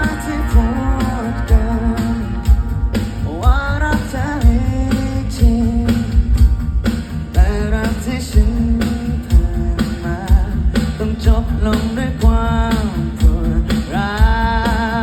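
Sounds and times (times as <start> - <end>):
person singing: 0.0 - 6.4, 7.3 - 15.0
guitars: 0.0 - 15.0
live rock band: 0.0 - 15.0
steady drum beat: 0.0 - 15.0.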